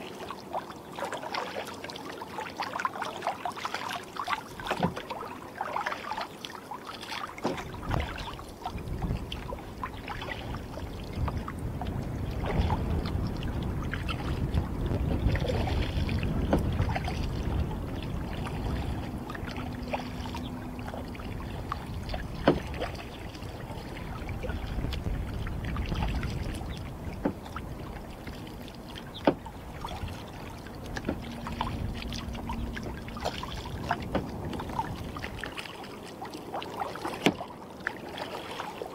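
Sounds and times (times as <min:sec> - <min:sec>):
paddle strokes: 0:00.0 - 0:38.9
water sloshing and lapping: 0:00.0 - 0:38.9.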